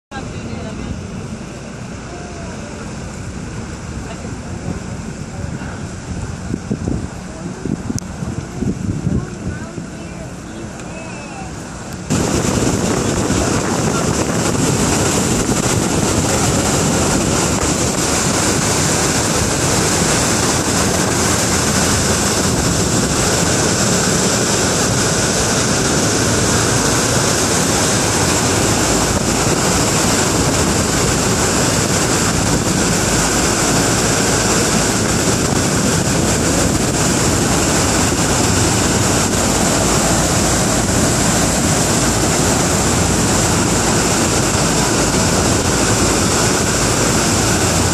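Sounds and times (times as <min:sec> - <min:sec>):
sea water churning past boat: 0:00.1 - 0:47.9
wind rushing on microphone: 0:00.1 - 0:47.9.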